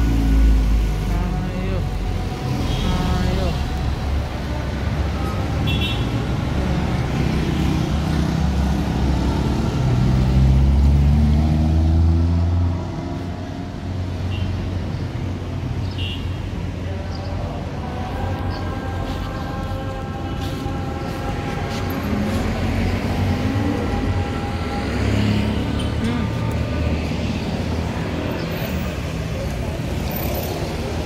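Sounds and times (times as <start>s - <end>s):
cars and motorcycles passing: 0.0s - 31.0s.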